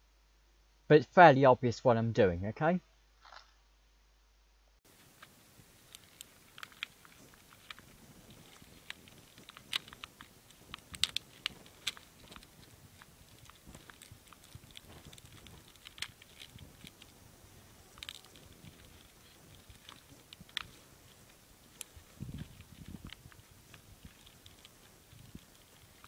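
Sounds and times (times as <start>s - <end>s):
plastic tray crackling: 4.9s - 26.0s.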